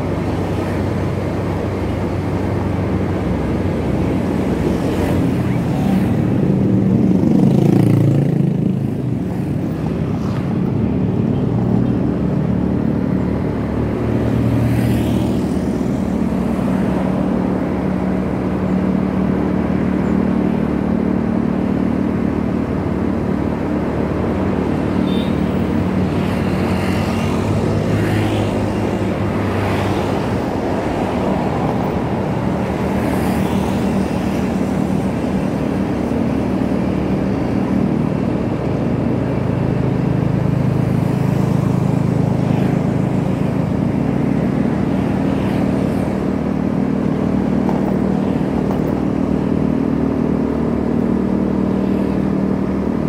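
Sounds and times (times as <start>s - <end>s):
road noise: 0.0s - 53.0s.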